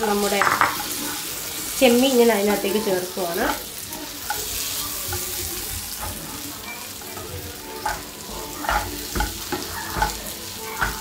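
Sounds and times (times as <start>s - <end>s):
prawns sizzling in oil: 0.0s - 11.0s
spatula scraping a pan: 0.6s - 11.0s.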